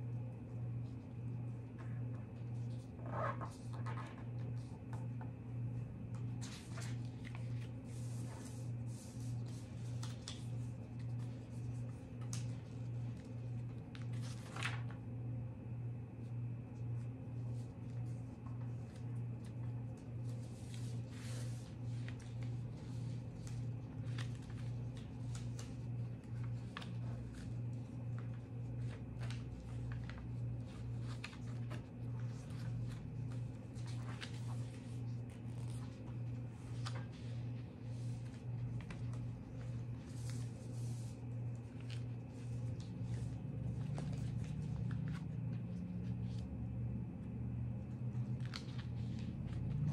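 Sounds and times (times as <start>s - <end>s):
low electrical hum: 0.0s - 49.9s
paper rustling and creasing: 0.3s - 46.6s, 47.8s - 49.9s.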